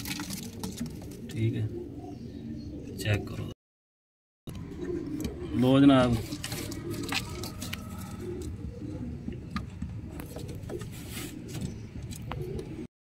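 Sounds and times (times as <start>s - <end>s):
pigeons cooing: 0.0s - 3.6s, 4.5s - 12.9s.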